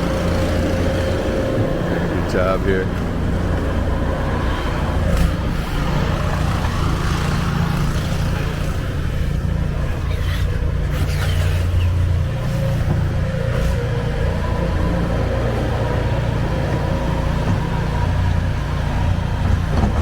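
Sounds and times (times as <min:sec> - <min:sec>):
snow-clearing machine engine humming: 0:00.0 - 0:20.0.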